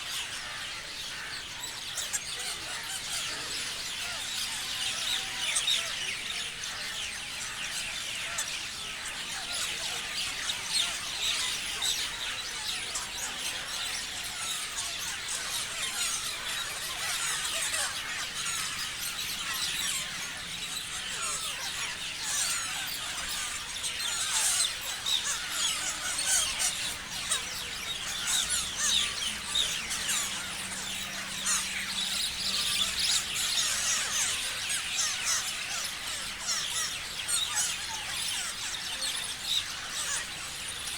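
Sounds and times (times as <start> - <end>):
parrots chirping and screeching: 0.0 - 40.9.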